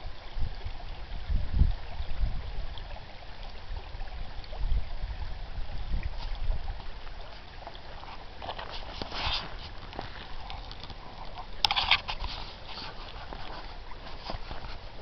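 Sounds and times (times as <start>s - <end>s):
creek babbling: 0.0s - 15.0s.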